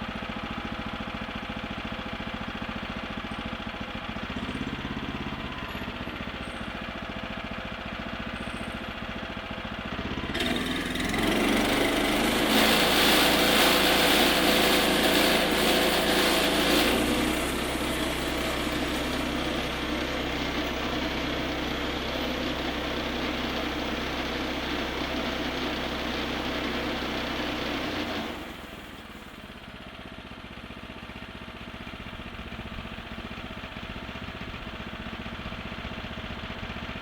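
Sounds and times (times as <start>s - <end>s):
small petrol engine running: 0.0s - 37.0s.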